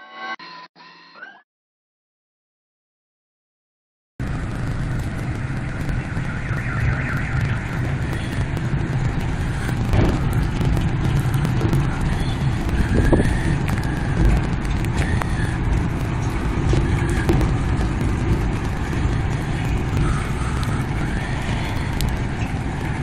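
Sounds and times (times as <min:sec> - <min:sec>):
low motor hum: 0:04.2 - 0:23.0.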